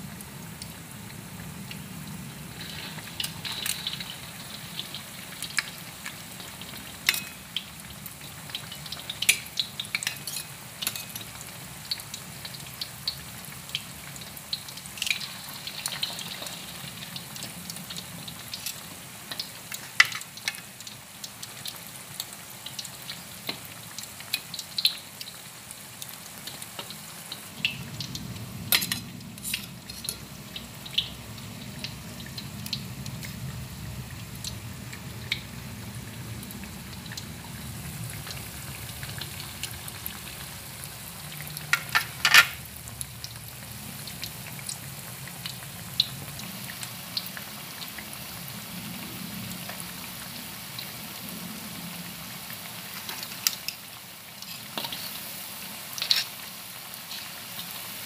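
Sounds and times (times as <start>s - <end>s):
oil sizzling: 0.0s - 58.0s
sharp crackles of frying: 0.0s - 58.0s.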